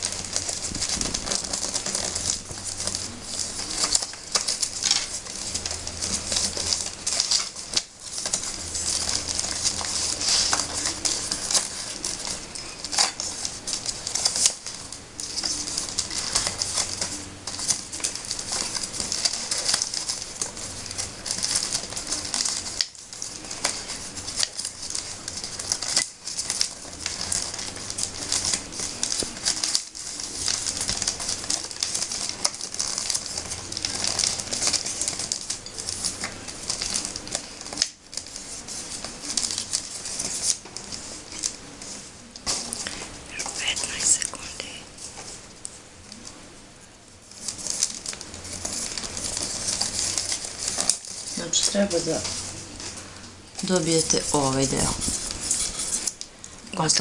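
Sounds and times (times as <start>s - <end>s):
paper tubes rustling and clicking: 0.0s - 57.0s.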